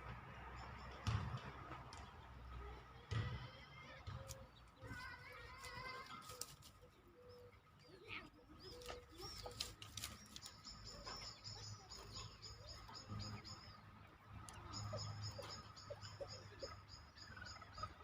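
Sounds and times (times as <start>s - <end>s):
songbird chirping and trilling: 0.0s - 18.0s.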